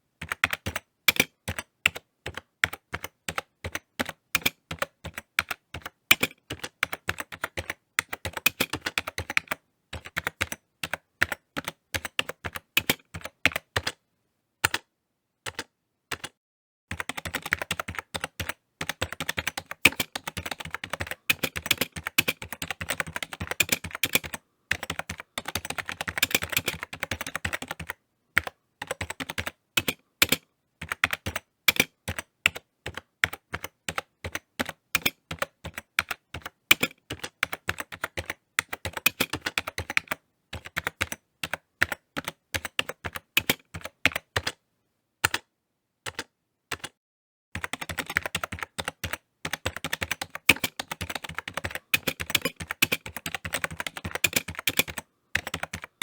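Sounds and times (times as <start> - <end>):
typing on computer keyboard: 0.2 - 14.0, 14.6 - 44.6, 45.2 - 47.0, 47.6 - 56.0.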